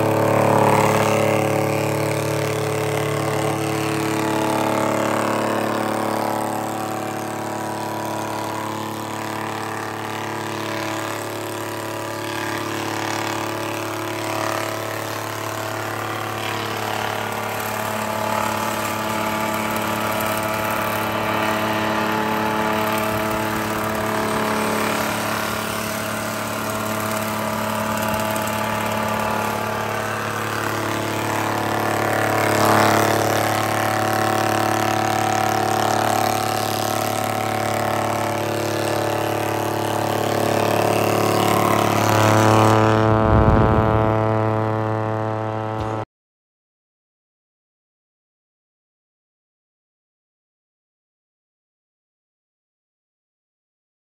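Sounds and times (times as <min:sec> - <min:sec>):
wood shaper motor humming: 0:00.0 - 0:46.0.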